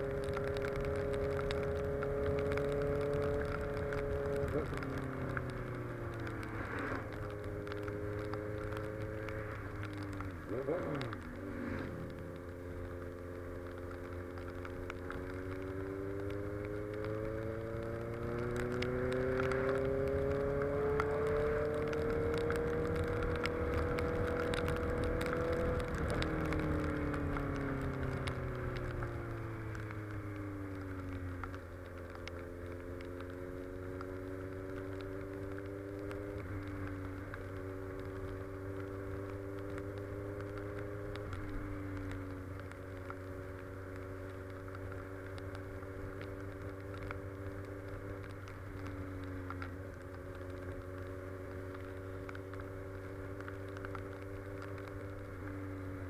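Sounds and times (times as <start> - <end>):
motorcycle engine cruising: 0.0 - 56.0
road noise: 0.0 - 56.0.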